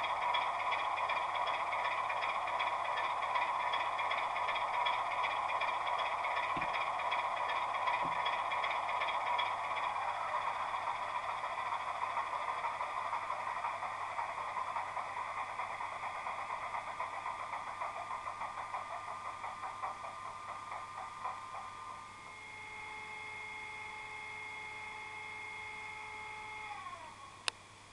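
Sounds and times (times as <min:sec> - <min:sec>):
model diesel engine sound: 0:00.0 - 0:27.5
constant whine: 0:00.0 - 0:27.9.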